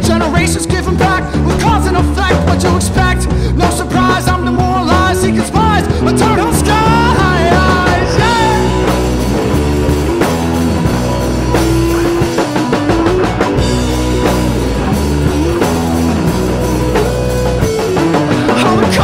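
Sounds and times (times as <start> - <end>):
rock music with drums and guitar: 0.0 - 19.0.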